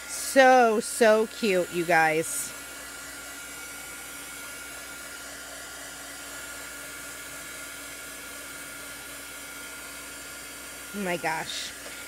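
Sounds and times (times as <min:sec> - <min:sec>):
hot-air dryer whining: 0:00.0 - 0:12.0.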